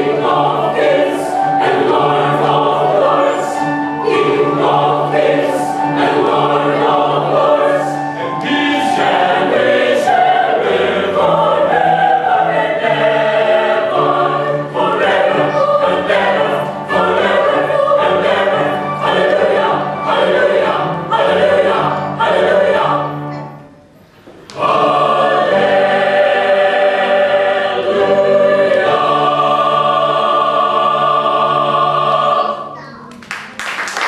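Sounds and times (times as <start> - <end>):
mixed choir singing: 0.0 - 23.6, 24.3 - 32.8.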